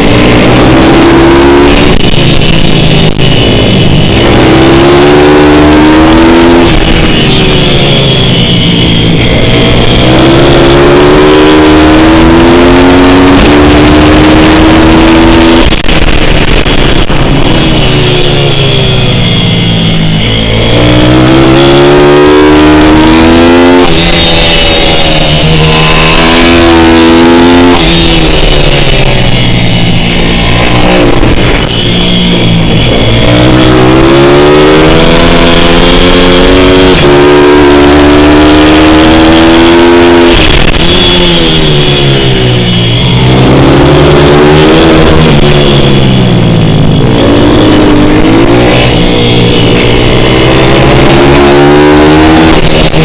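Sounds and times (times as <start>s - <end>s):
pit bike engine accelerating: 0.0s - 53.0s.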